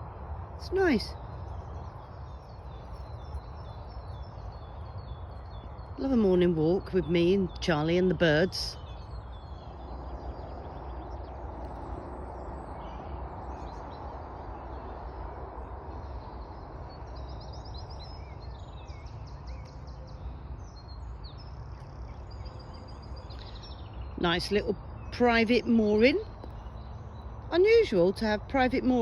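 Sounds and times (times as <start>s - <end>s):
outdoor background rumble: 0.0s - 29.0s
songbirds chirping: 0.0s - 29.0s.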